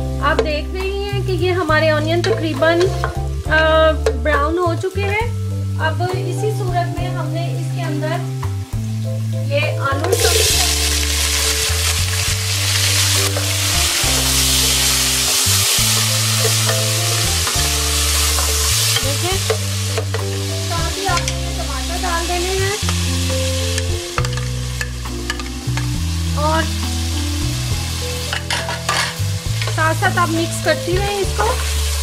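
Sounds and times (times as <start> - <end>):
music with low held notes: 0.0 - 32.0
potatoes sizzling in oil: 0.0 - 32.0.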